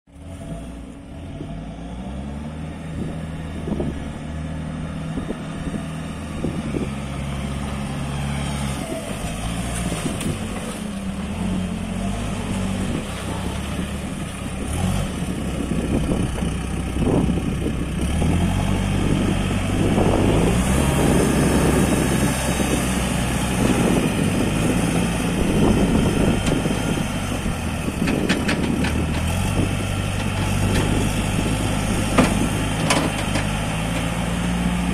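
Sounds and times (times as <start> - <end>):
diesel engine revving: 0.1 - 34.9.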